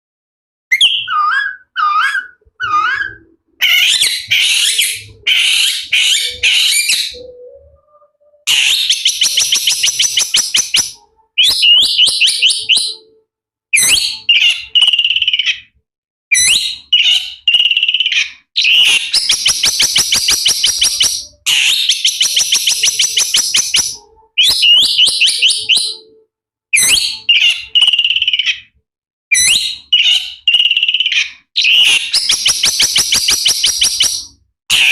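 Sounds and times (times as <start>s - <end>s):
bird mimicry song: 0.7s - 13.2s, 13.8s - 26.2s, 26.8s - 34.9s.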